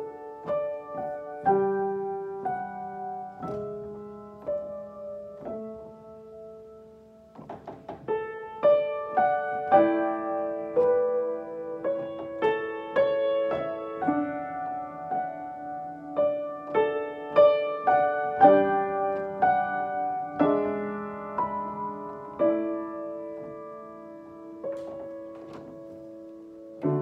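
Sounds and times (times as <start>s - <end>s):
upright piano played slowly: 0.0s - 27.0s.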